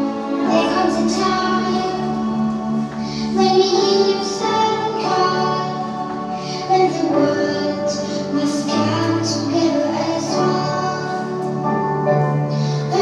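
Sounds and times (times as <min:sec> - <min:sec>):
children and women singing: 0:00.0 - 0:11.7
instrumental backing music: 0:00.0 - 0:13.0.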